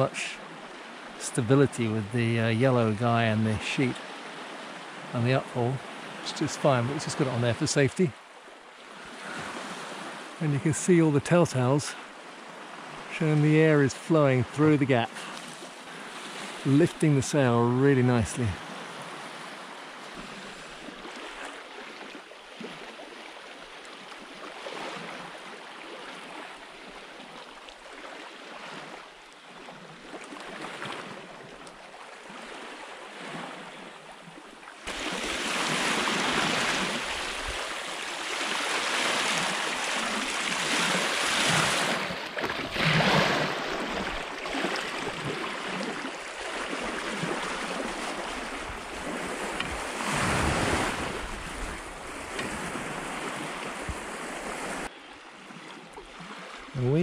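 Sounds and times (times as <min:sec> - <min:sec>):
water rushing past hull: 0:00.0 - 0:54.9.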